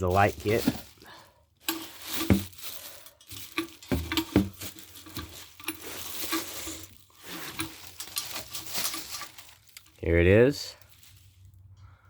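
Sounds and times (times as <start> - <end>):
packaging rustling: 0.0 - 10.1, 10.7 - 11.5.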